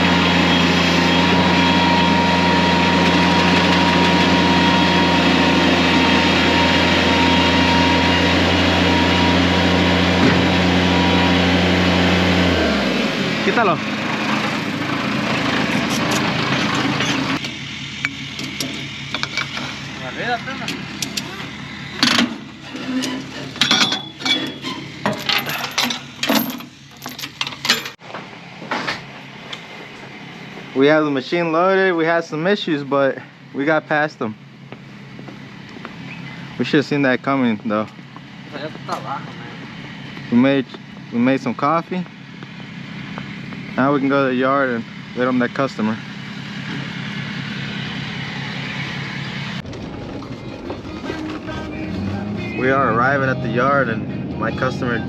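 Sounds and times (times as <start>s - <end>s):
construction machine engine running: 0.0s - 55.0s.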